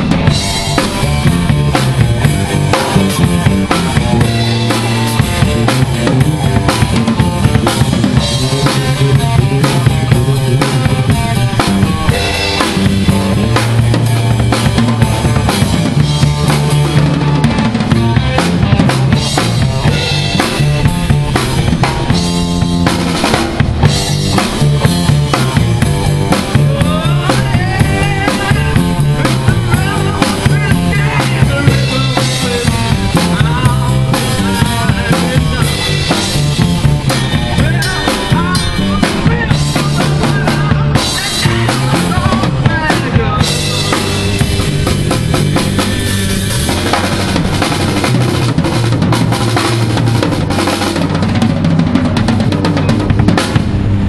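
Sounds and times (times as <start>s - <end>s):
drum kit: 0.0s - 54.0s
electric guitar: 0.0s - 54.0s
low bass line: 0.0s - 54.0s
wavering high lead line: 0.0s - 54.0s.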